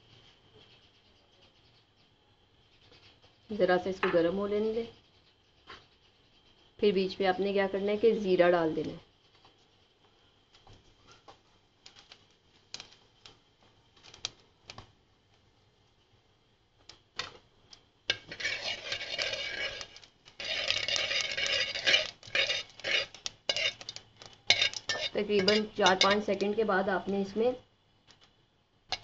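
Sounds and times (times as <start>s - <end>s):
seeds sizzling in hot oil: 0.0s - 29.0s.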